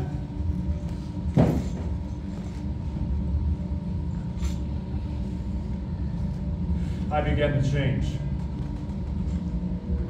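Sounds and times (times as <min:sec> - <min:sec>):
faint hum: 0:00.0 - 0:10.0
low hall rumble: 0:00.0 - 0:10.0.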